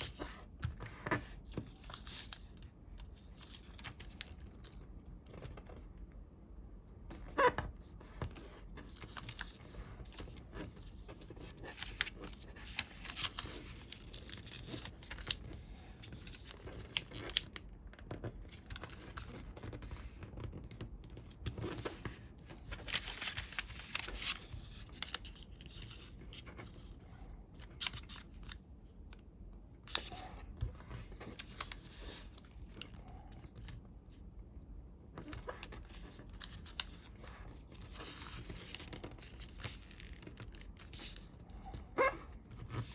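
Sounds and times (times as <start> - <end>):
paper rustling and crinkling: 0.0 - 5.9, 7.3 - 29.0, 29.8 - 34.3, 35.2 - 42.9.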